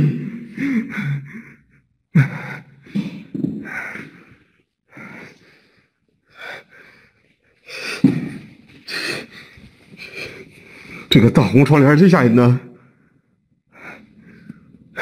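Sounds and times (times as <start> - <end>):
man gasping and breathing hard: 0.0 - 11.1, 13.7 - 15.0.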